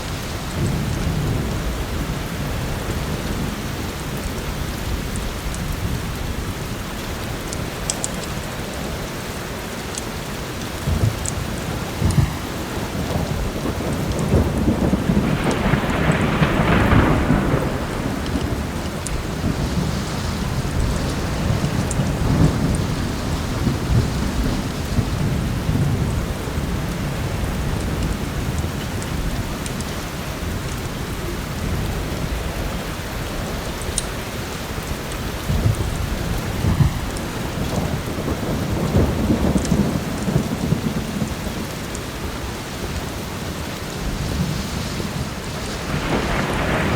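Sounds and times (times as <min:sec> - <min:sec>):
heavy rain: 0:00.0 - 0:46.9
rolling thunder: 0:00.0 - 0:46.9.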